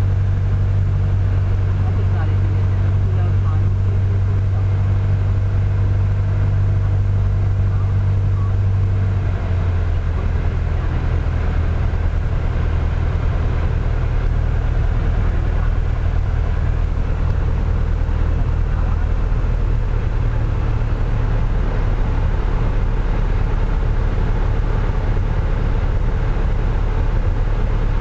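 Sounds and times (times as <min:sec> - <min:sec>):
light aircraft engine drone: 0:00.0 - 0:28.0.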